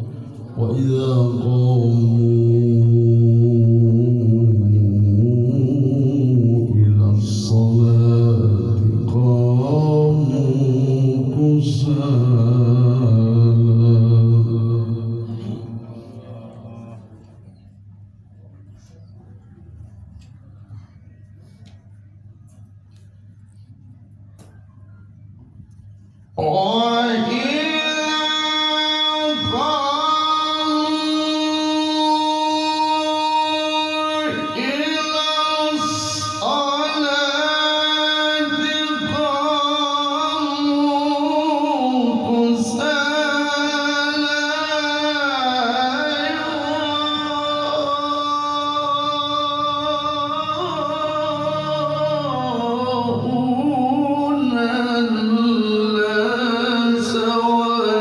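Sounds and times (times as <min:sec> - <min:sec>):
man chanting melodic recitation: 0:00.0 - 0:17.5, 0:26.4 - 0:58.0.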